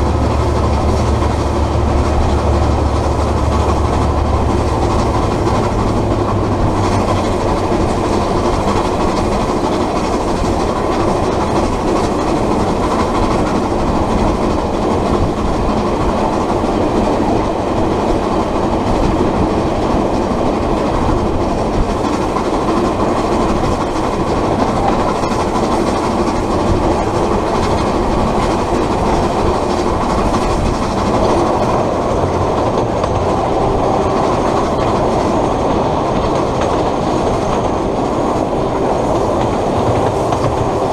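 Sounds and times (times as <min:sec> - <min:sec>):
train clatter: 0:00.0 - 0:40.9
train wheels rumbling on rails: 0:00.0 - 0:40.9.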